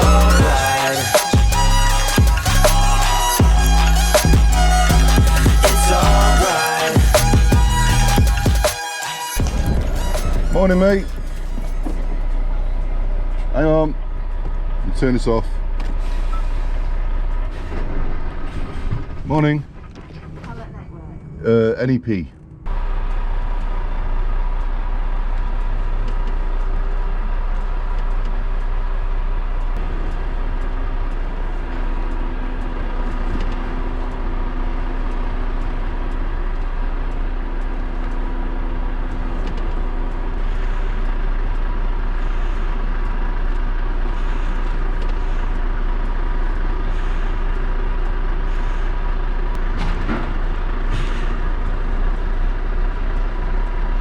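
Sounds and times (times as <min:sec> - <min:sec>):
lorry engine rumbling: 0:00.0 - 0:54.0.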